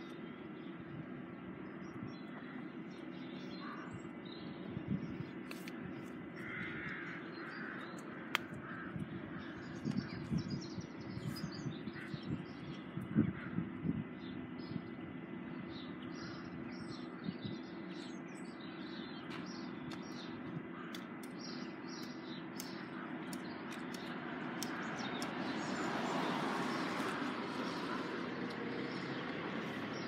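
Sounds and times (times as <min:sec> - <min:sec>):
outdoor background hum: 0:00.0 - 0:30.0
songbirds chirping: 0:00.0 - 0:30.0.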